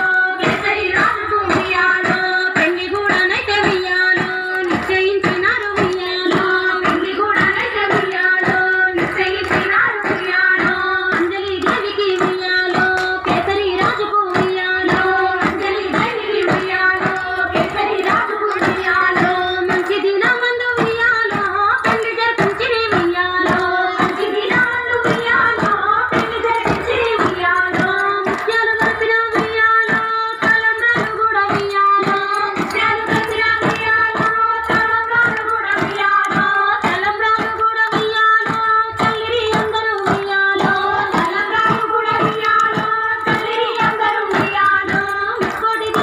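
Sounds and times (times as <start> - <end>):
hand claps: 0.0 - 46.0
women singing folk song: 0.0 - 46.0.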